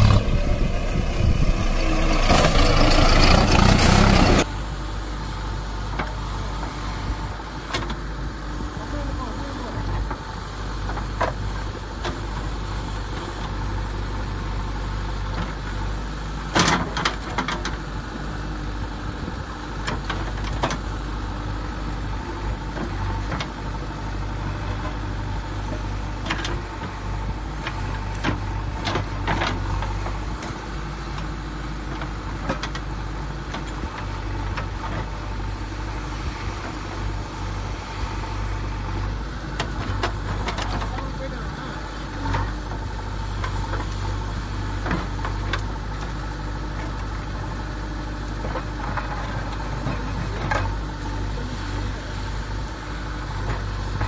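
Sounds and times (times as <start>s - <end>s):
engine-like idling drone: 0.0s - 54.0s.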